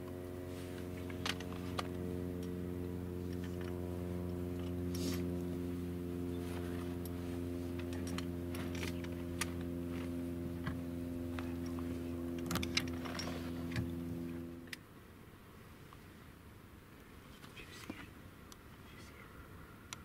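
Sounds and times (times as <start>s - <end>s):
low hum of held tones: 0.0s - 20.0s.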